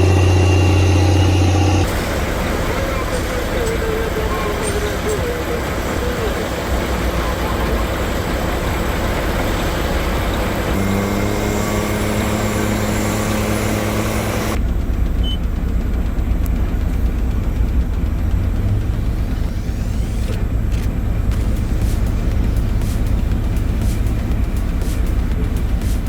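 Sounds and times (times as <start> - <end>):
heavy truck engine running: 0.0 - 26.0
road noise: 0.0 - 26.0
steady droning tone: 0.0 - 26.0.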